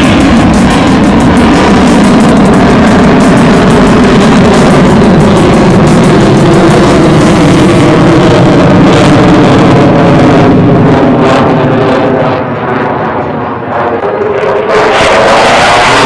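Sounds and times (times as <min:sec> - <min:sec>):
loud military jet engine: 0:00.0 - 0:16.0.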